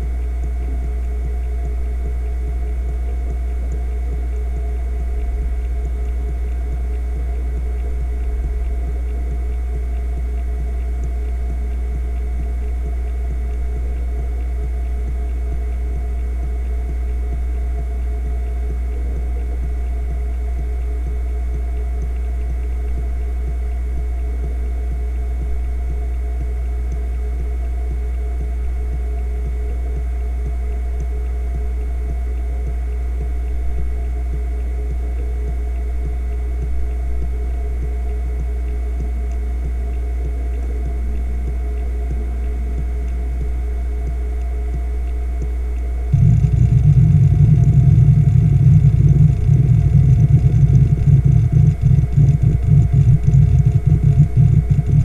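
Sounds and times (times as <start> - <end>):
hard drive spindle hum: 0.0 - 55.0.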